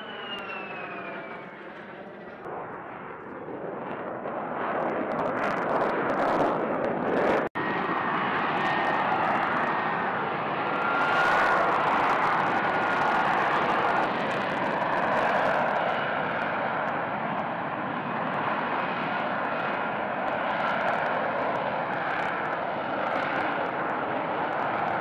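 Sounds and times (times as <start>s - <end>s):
jet engine roar: 0.0s - 25.0s
jet engine whine: 0.0s - 25.0s.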